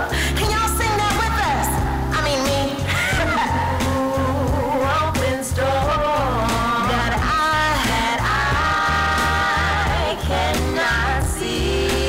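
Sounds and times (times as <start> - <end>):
woman singing a cappella gospel: 0.0 - 12.0.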